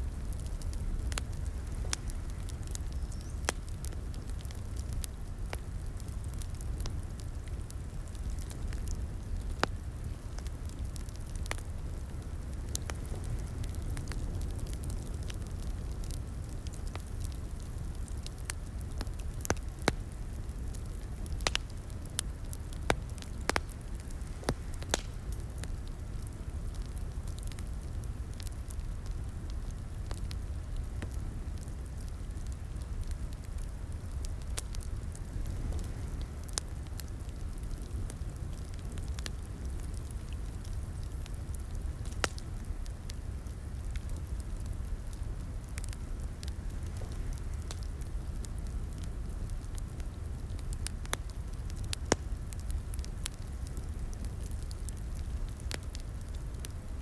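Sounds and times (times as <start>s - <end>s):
low rumble of flames: 0.0s - 57.0s
wood fire pops and snaps: 0.1s - 56.9s.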